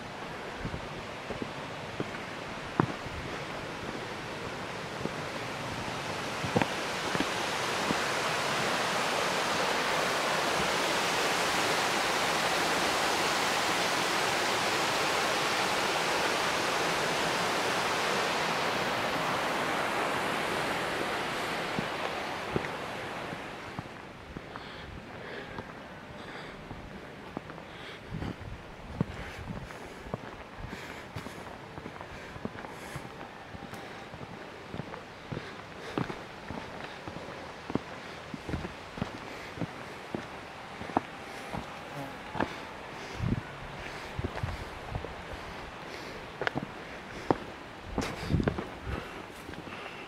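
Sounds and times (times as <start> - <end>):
falling water rushing: 0.0 - 28.2, 29.1 - 50.0.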